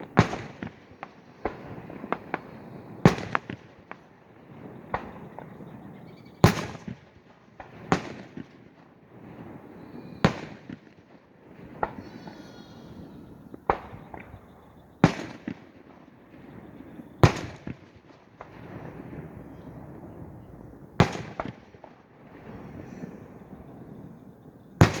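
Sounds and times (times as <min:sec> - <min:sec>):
firework shells booming: 0:00.0 - 0:25.0.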